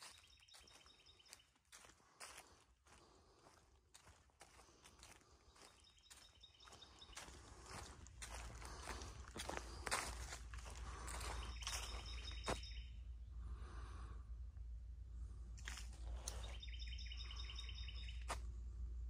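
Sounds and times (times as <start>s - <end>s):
footsteps on dry leaves: 0.0s - 12.8s, 15.6s - 18.4s.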